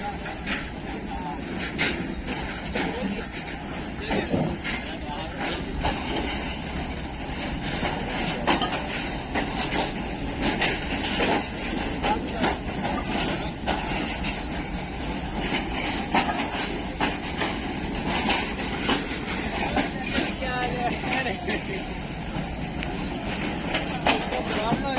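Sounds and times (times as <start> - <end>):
train rumble: 0.0 - 24.9
train wheels clacking: 0.0 - 24.9.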